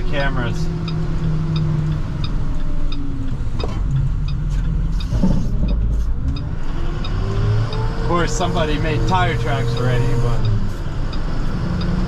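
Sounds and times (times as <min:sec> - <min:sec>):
truck engine running: 0:00.0 - 0:12.0
turn signal ticking: 0:00.0 - 0:12.0.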